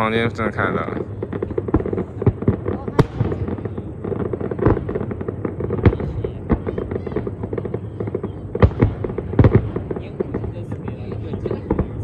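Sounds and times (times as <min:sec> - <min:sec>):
fireworks booms: 0:00.0 - 0:12.0
fireworks crackling: 0:00.0 - 0:12.0.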